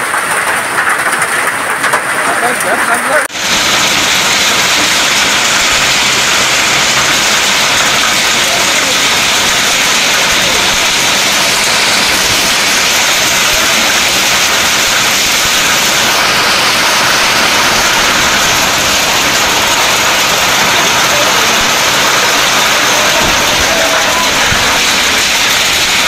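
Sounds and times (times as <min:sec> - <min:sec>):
heavy rain and hail: 0:00.0 - 0:26.0.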